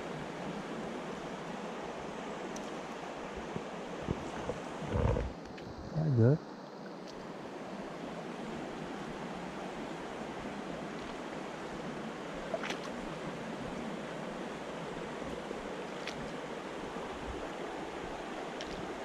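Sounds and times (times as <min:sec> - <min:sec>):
stream water rushing: 0:00.0 - 0:05.8, 0:06.4 - 0:19.0.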